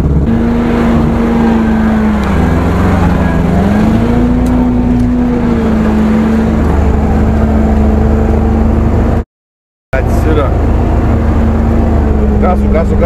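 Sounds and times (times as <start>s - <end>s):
van engine labouring uphill: 0.0s - 9.2s, 10.0s - 13.0s.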